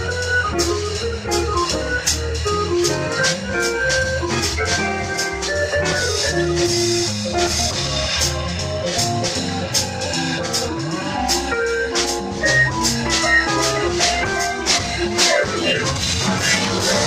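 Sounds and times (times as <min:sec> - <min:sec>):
electric guitar: 0:00.0 - 0:17.0
low bass notes: 0:00.0 - 0:17.0
organ chords and melody: 0:00.0 - 0:17.0.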